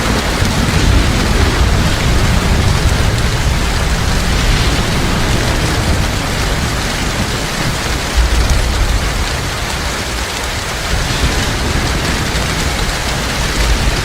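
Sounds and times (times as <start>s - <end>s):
heavy rain falling: 0.0s - 14.0s
low rumble: 0.4s - 14.0s.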